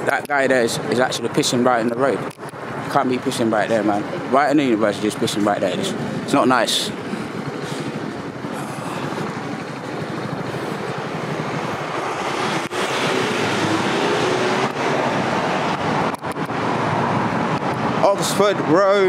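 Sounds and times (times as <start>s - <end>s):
vehicle engine hum: 0.0s - 19.0s
vehicles passing: 0.0s - 19.0s.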